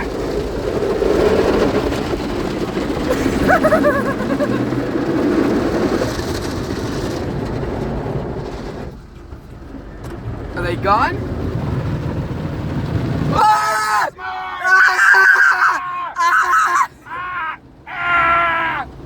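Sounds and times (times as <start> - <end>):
car wash water spraying: 0.0 - 19.0.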